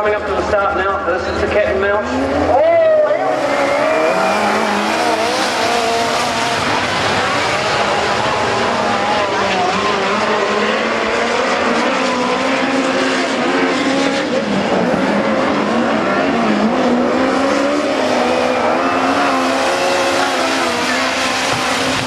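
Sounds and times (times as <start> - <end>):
race car engines rising and falling: 0.0 - 22.0.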